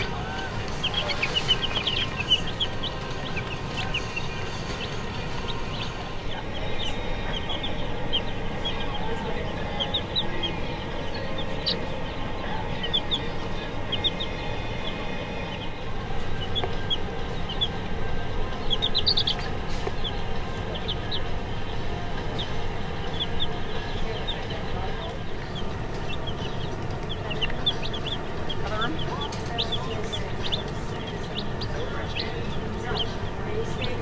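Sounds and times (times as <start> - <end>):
baby chicks peeping: 0.0 - 34.0
steady low hum: 0.0 - 34.0.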